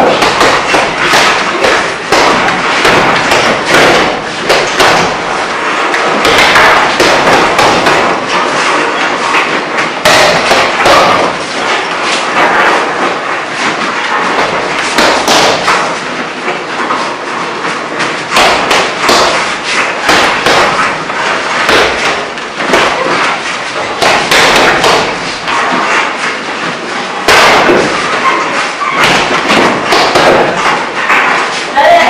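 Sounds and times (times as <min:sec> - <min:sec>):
punches thudding on heavy bag: 0:00.0 - 0:16.0, 0:18.1 - 0:25.8, 0:27.2 - 0:28.2, 0:28.8 - 0:30.9.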